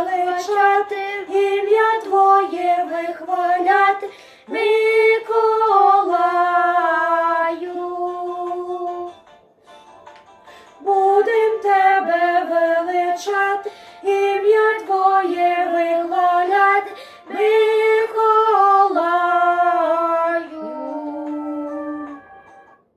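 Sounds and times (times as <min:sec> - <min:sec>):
woman and boy singing: 0:00.0 - 0:09.1, 0:10.8 - 0:22.3.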